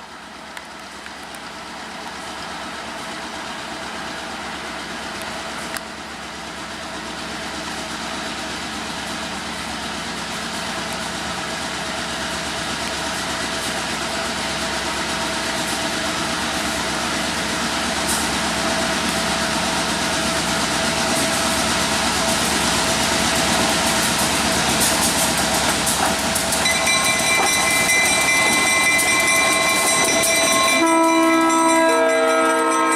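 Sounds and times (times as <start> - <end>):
train engine drone: 0.0 - 32.9.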